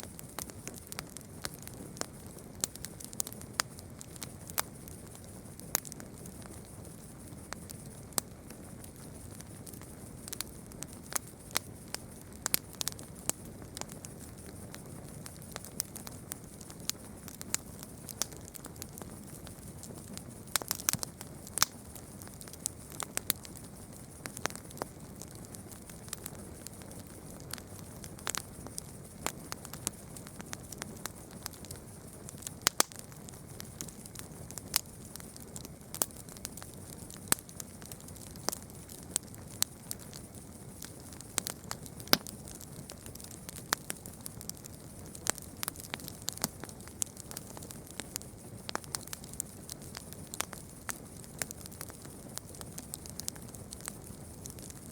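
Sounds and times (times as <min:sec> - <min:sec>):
campfire crackling and popping: 0:00.0 - 0:54.9
low steady hiss: 0:00.0 - 0:54.9.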